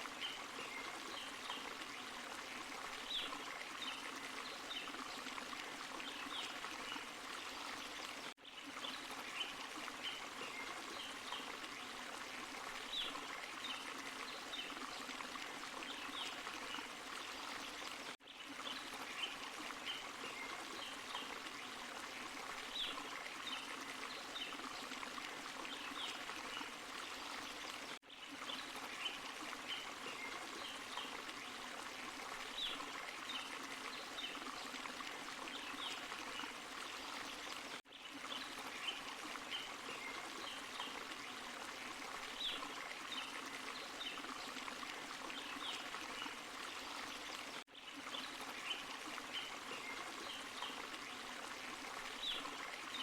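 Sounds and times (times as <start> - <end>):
stream and small waterfall rushing: 0.0 - 53.0.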